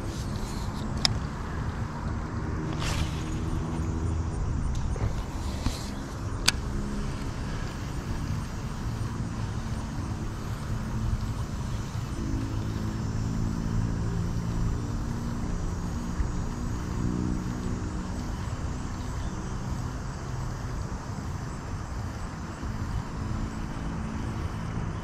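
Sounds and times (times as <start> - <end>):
engine humming: 0.0 - 25.0.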